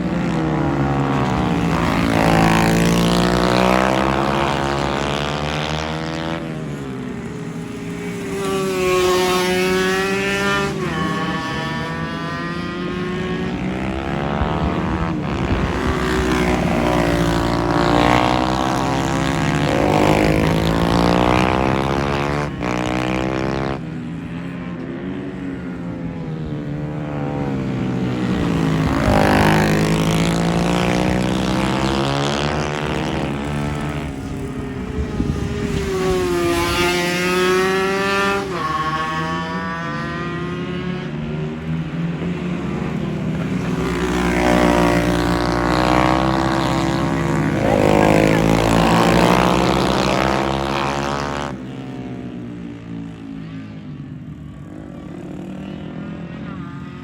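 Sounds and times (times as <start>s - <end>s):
racing motorbikes passing by: 0.0s - 57.0s.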